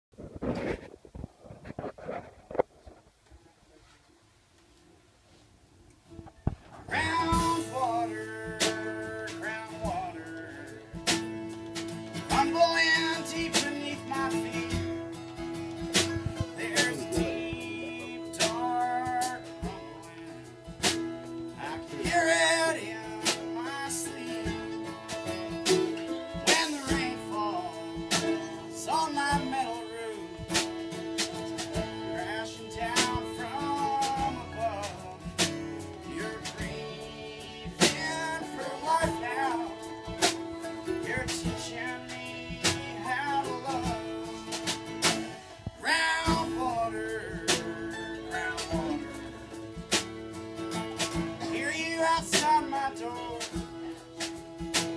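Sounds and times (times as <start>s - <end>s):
mandolin: 6.0s - 54.9s
fiddle: 6.1s - 54.9s
strummed acoustic guitar: 6.1s - 54.9s
drum kit beats: 6.2s - 54.9s.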